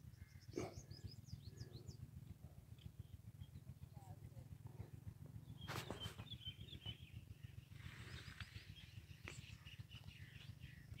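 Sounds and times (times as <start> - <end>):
low rumble on the microphone: 0.0 - 11.0
small birds chirping faintly: 0.0 - 11.0.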